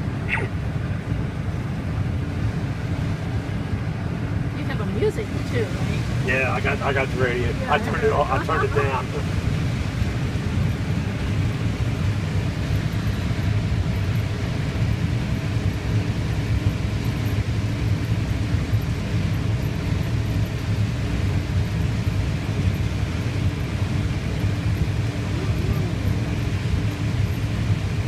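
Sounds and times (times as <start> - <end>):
harvester engine and machinery drone: 0.0 - 28.0.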